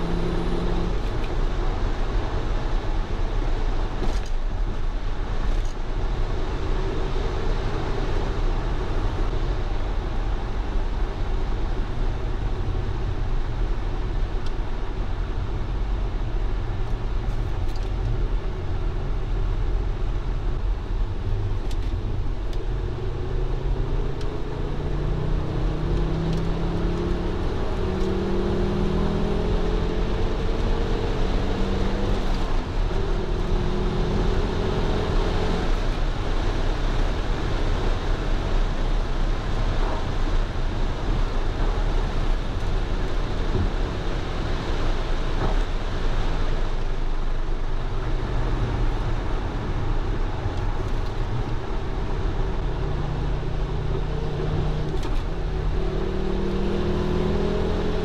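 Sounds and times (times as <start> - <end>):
car engine drone: 0.0 - 58.0
tyre and wind noise: 0.0 - 58.0.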